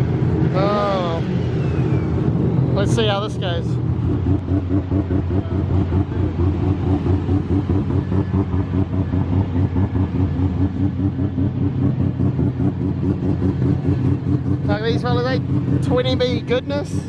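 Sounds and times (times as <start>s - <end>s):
car engine lumpy idle: 0.0s - 17.0s.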